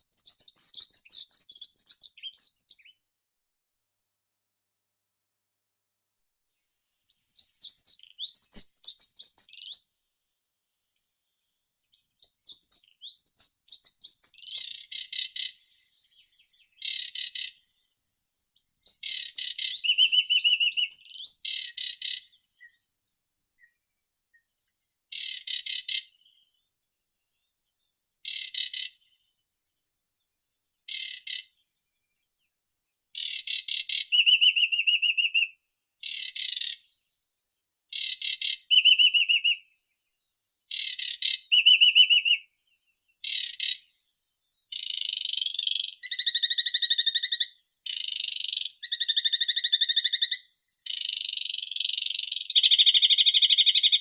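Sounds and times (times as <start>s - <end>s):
songbird chirping: 0.0s - 3.1s, 6.5s - 54.0s.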